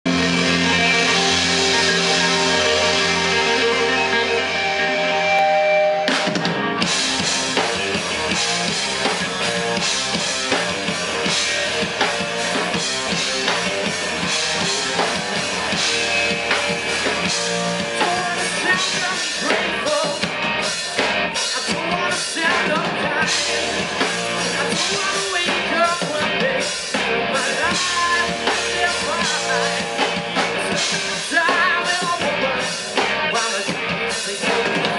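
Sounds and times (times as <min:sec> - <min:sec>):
bass guitar: 0:00.0 - 0:34.9
drums crashing: 0:00.0 - 0:34.9
electric guitars ringing chords: 0:00.0 - 0:34.9.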